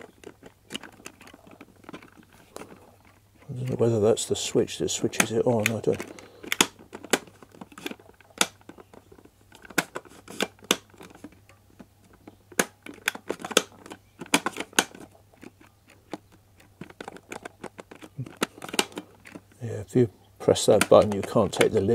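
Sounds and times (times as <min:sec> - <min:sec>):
plastic clicks and knocks: 0:00.0 - 0:19.6, 0:20.4 - 0:21.9.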